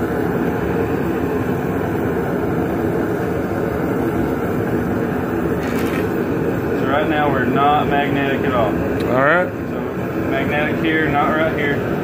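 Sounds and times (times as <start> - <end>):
forge burner rushing: 0.0 - 12.0.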